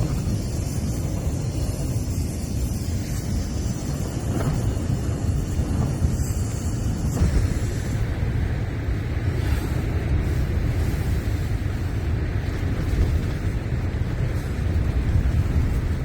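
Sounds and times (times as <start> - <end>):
strong wind gusting: 0.0 - 16.0
wind buffeting microphone: 0.0 - 16.0.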